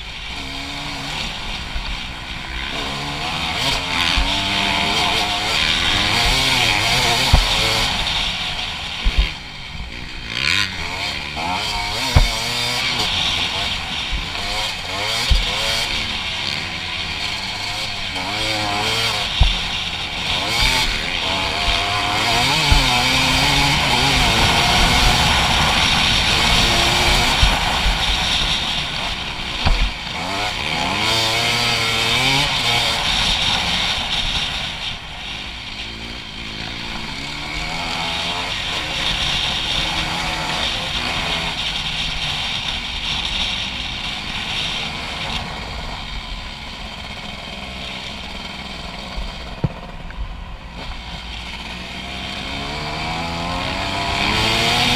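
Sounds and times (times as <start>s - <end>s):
dirt bike engine accelerating: 0.0s - 54.9s.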